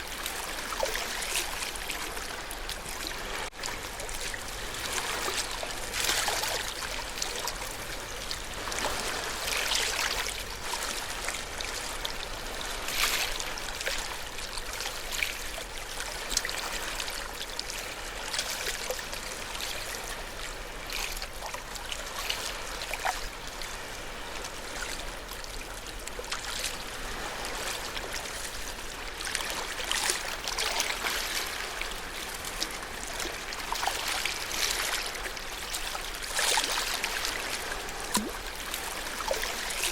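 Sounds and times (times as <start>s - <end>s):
ocean waves lapping at shore: 0.0s - 39.9s.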